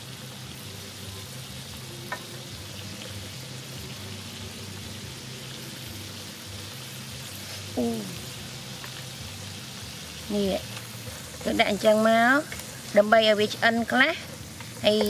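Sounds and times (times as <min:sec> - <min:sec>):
meat and vegetables sizzling in a pan: 0:00.0 - 0:15.0.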